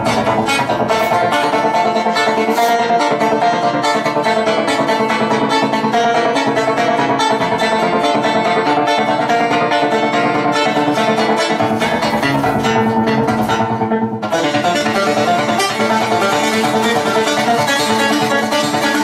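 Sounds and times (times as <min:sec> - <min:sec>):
acoustic guitar fast picking: 0:00.0 - 0:19.0.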